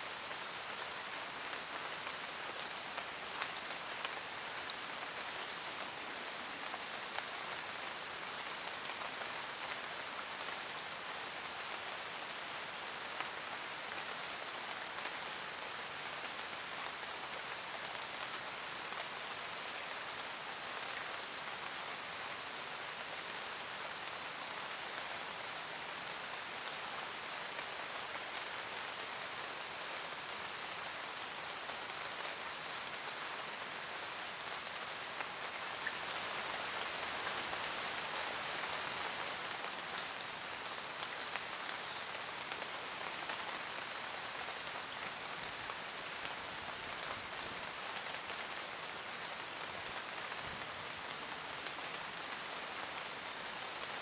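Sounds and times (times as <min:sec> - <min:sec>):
rain on leaves and ground: 0:00.0 - 0:54.0.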